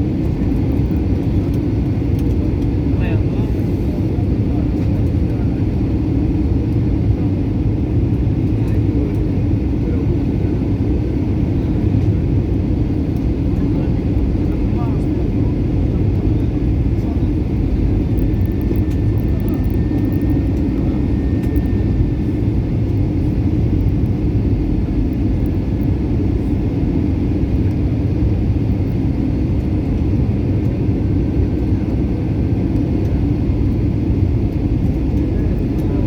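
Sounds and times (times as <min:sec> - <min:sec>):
airliner engines rumbling: 0:00.0 - 0:36.0.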